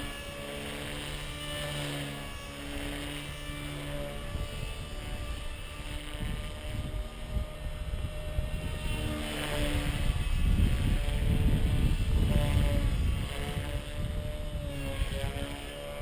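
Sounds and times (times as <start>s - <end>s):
rc helicopter rotor whine: 0.0s - 16.0s
wind rumble on microphone: 0.0s - 16.0s.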